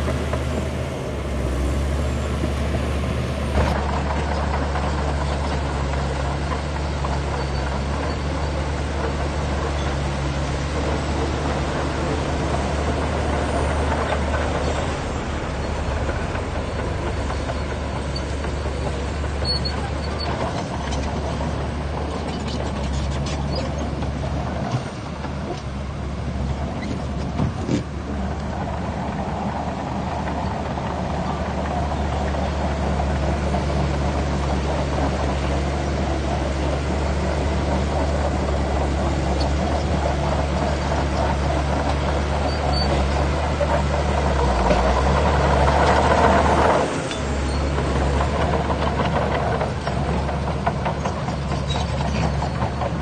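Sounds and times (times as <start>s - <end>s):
bulldozer diesel engine droning: 0.0s - 53.0s.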